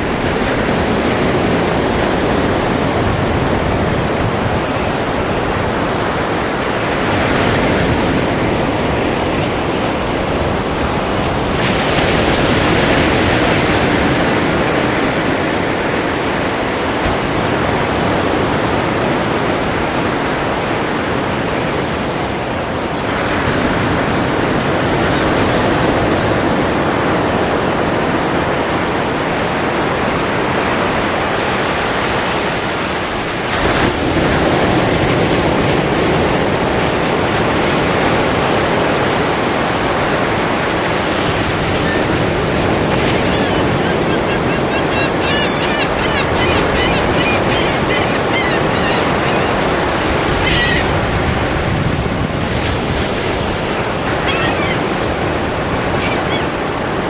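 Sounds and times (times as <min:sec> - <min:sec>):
ocean waves washing in: 0:00.0 - 0:57.0
waves breaking: 0:00.0 - 0:57.0.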